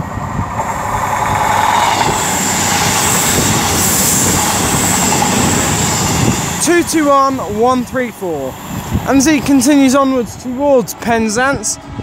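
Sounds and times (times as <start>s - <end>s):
diesel train passing at speed: 0.0s - 12.0s.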